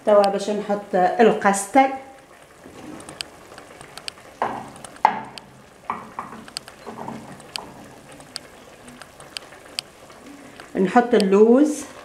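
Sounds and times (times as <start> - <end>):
stew simmering: 0.0 - 12.0.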